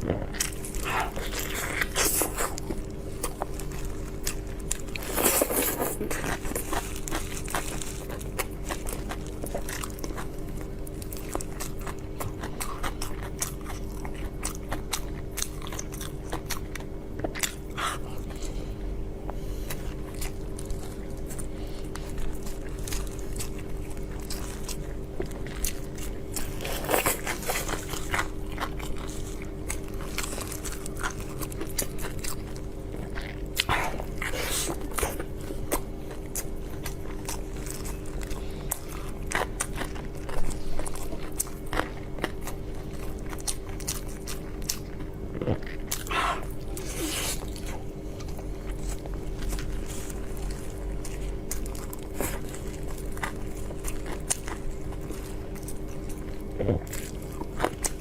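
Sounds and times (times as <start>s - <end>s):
crunching and wet chewing: 0.0s - 58.0s
steady low hum: 0.0s - 58.0s.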